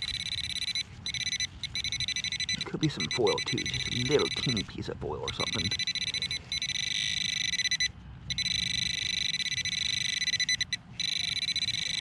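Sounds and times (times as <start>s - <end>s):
metal detector pinpointer buzzing: 0.0s - 4.6s, 5.2s - 12.0s.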